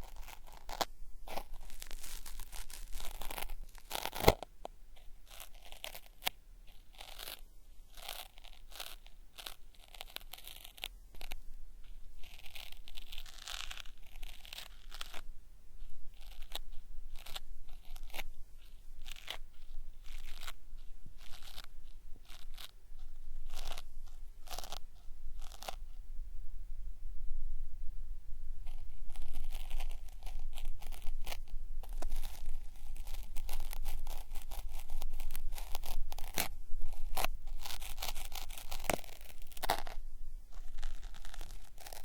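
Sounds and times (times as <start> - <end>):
cotton swab scraping microphone: 0.0 - 26.2, 28.5 - 42.0.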